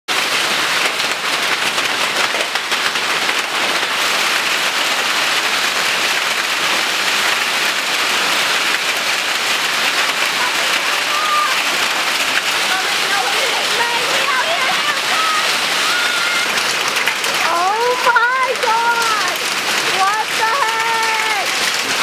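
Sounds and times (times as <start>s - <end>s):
rain and hail pelting down: 0.1s - 22.0s.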